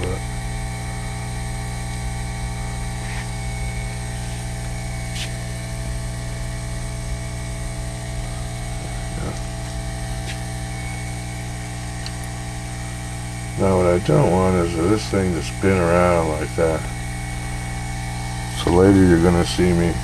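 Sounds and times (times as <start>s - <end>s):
small motor whirring hum: 0.0s - 20.0s.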